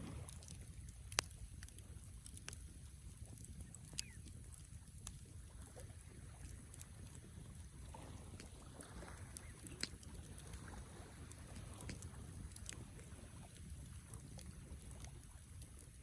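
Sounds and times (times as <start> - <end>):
campfire crackling and popping: 0.0 - 16.0
low fire rumble: 0.0 - 16.0.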